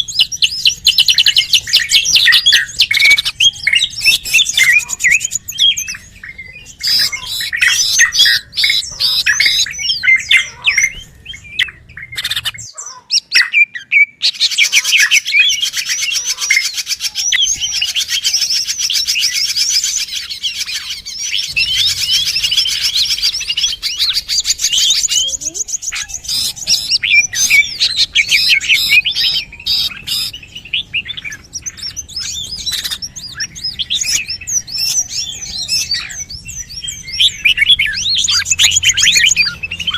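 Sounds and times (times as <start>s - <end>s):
small birds chirping in chorus: 0.0s - 39.9s.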